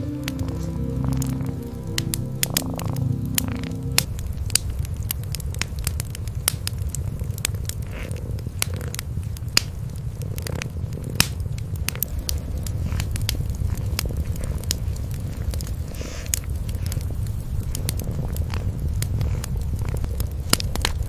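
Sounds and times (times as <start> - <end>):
cats purring: 0.0 - 21.0
wood fire crackling and popping: 0.0 - 21.0.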